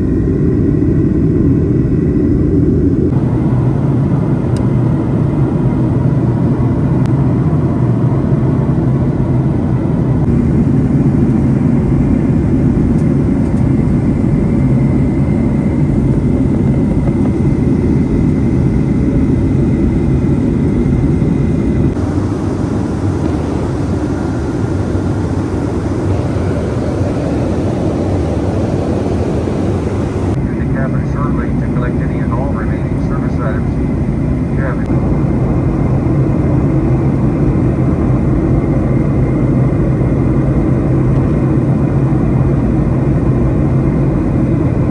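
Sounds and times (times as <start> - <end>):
jet engine and airflow noise: 0.0 - 44.9.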